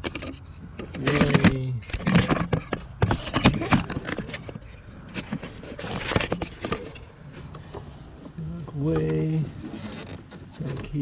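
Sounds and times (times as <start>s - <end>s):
tools handling engine parts: 0.0s - 11.0s.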